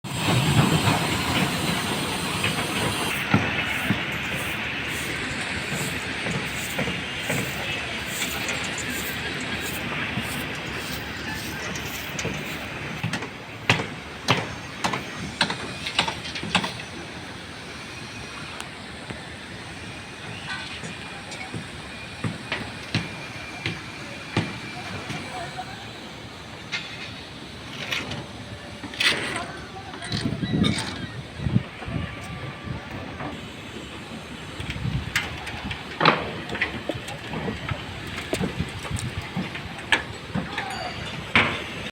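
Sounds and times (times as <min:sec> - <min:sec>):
construction background din: 0:00.1 - 0:41.9.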